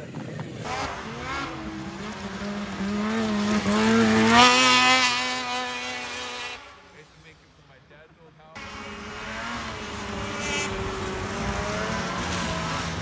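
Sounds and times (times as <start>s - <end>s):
snowmobile engine passing by: 0.3s - 7.4s, 8.6s - 13.0s.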